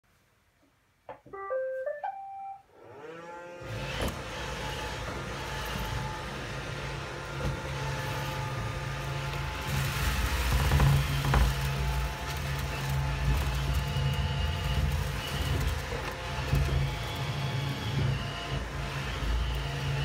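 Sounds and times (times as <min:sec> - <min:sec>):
robot vacuum motor whine: 0:02.8 - 0:20.0.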